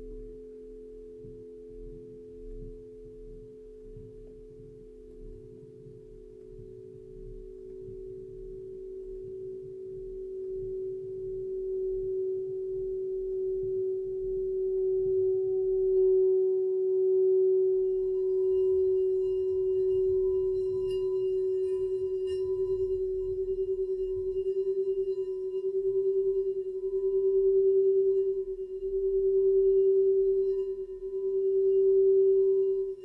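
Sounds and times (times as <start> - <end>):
singing bowl ringing tone: 0.0 - 33.0.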